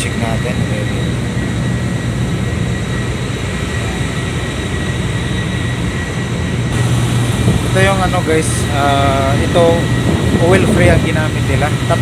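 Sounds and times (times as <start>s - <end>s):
high machine whine: 0.0s - 12.0s
machinery low drone: 0.0s - 12.0s.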